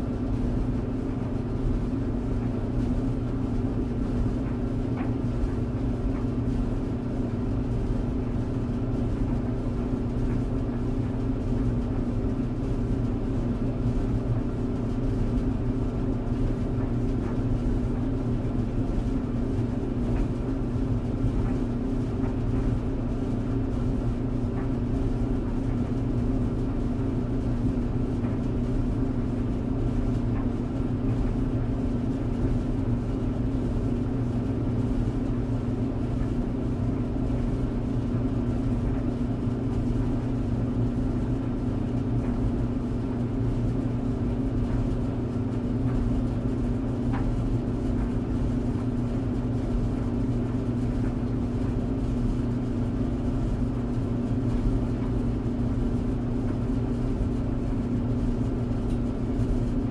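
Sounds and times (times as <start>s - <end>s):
tumble dryer running: 0.0s - 59.9s.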